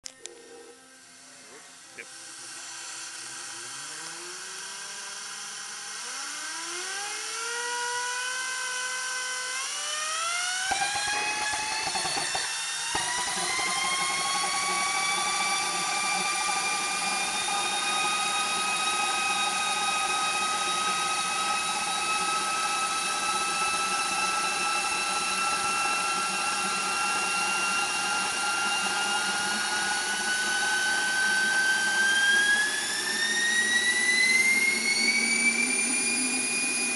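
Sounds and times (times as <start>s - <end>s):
gas turbine whine: 0.0s - 36.9s.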